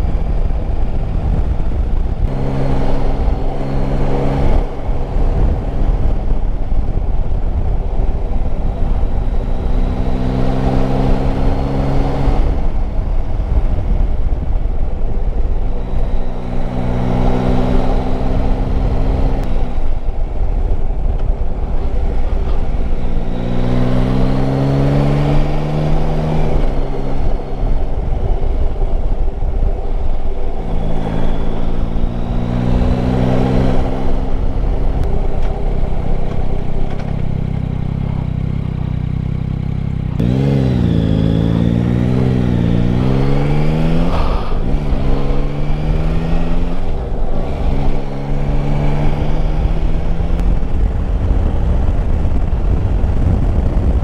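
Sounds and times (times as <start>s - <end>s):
wind rush: 0.0s - 38.3s, 40.2s - 54.0s
motorcycle engine revving: 0.0s - 54.0s.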